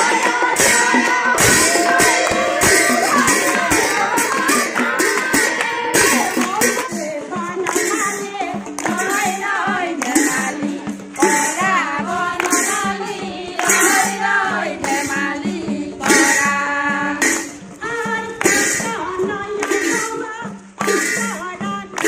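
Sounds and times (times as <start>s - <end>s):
rhythmic hand clapping: 0.0s - 22.0s
women singing together: 0.0s - 22.0s.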